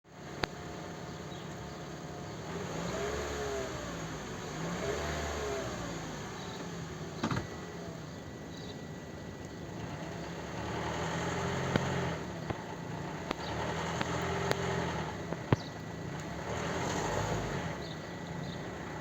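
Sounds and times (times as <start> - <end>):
petrol engine revving: 0.1 - 8.7, 9.5 - 19.0.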